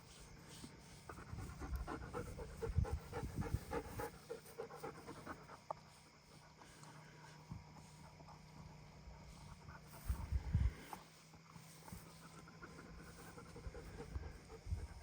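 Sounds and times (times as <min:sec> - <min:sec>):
dog panting quickly: 0:01.0 - 0:10.5, 0:11.4 - 0:15.0.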